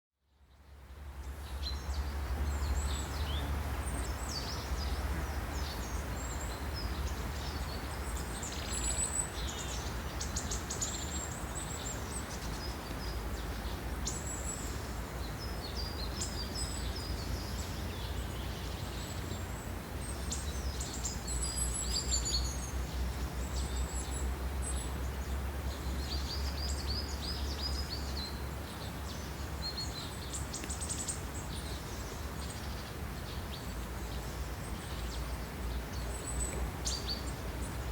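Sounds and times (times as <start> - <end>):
small birds chirping: 0.5 - 37.9.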